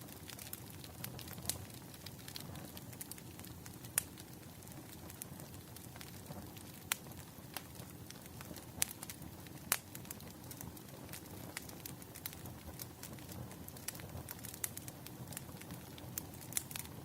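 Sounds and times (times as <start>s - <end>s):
loud fire pops: 0.0s - 17.0s
wood fire crackling: 0.0s - 17.0s.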